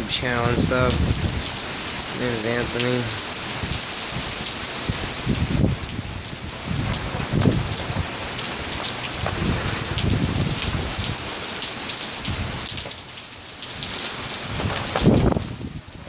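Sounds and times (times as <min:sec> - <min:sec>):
wind gusts buffeting microphone: 0:00.0 - 0:11.6, 0:12.2 - 0:12.9, 0:13.7 - 0:16.0
heavy rain falling: 0:00.0 - 0:16.0.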